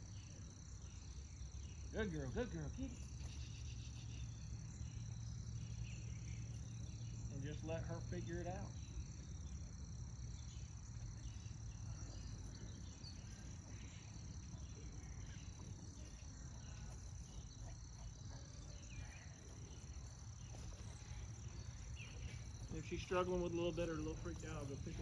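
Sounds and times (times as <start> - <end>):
insects chirping chorus: 0.0 - 25.0.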